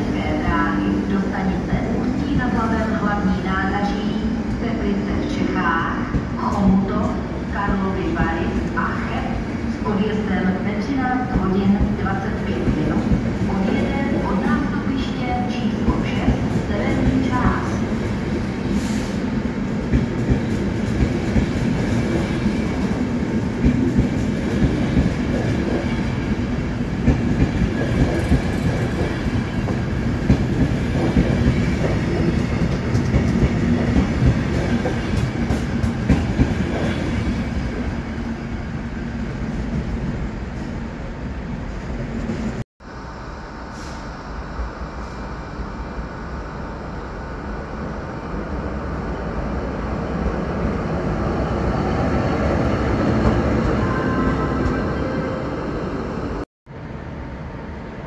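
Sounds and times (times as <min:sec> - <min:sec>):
steady train hum: 0:00.0 - 0:58.0.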